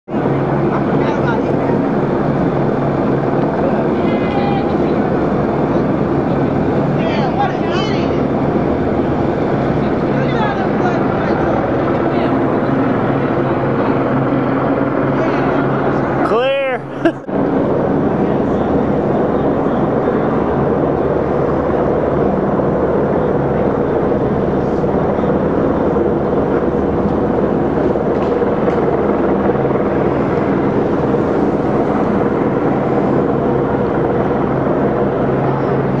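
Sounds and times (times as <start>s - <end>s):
engine drone: 0.1s - 36.0s.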